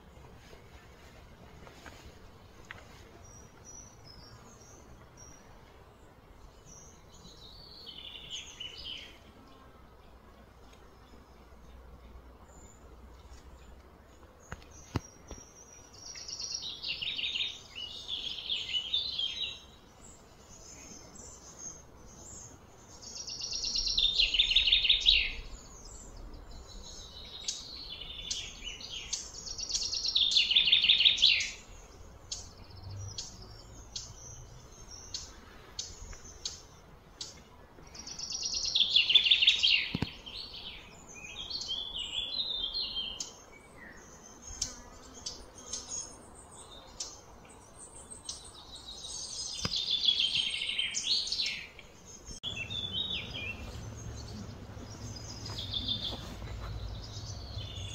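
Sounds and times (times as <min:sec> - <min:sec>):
quiet bird chirps: 0:00.0 - 0:57.9
songbird singing: 0:00.0 - 0:57.9.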